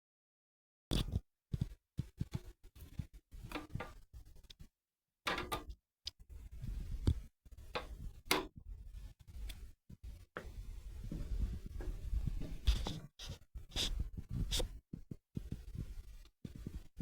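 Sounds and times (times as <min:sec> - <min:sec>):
static crackling clicks and pops: 0:00.9 - 0:04.7, 0:05.3 - 0:17.0.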